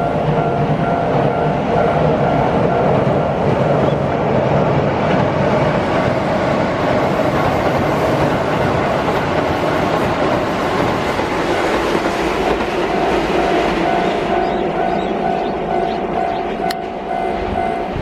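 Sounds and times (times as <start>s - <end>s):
train crossing steel bridge: 0.0s - 18.0s.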